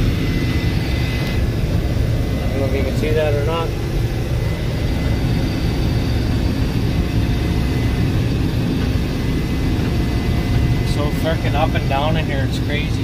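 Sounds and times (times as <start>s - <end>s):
combine engine drone: 0.0s - 13.0s
faint high whine: 0.0s - 13.0s.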